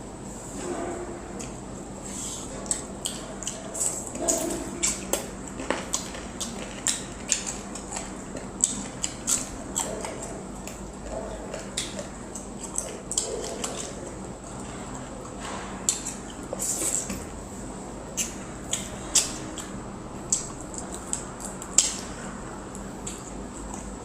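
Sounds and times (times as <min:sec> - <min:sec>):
person chewing food: 0:01.0 - 0:24.0.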